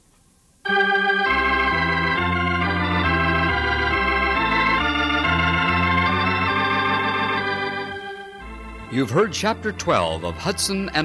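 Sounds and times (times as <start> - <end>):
organ playing sustained chords: 0.6 - 11.0.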